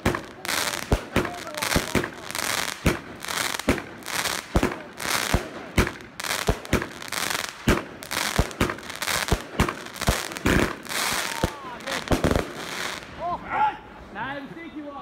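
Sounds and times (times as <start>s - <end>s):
fireworks bangs: 0.0s - 13.2s
fireworks crackling: 0.0s - 13.2s.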